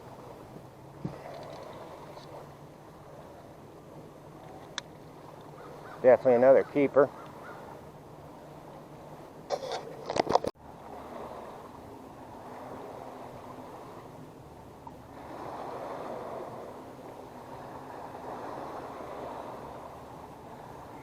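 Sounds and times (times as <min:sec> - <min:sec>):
water lapping against boat: 0:00.0 - 0:21.0.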